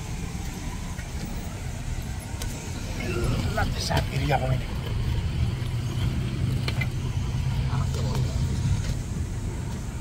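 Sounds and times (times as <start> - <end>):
aircraft cabin drone: 0.0 - 10.0
faint passenger voices: 0.4 - 10.0.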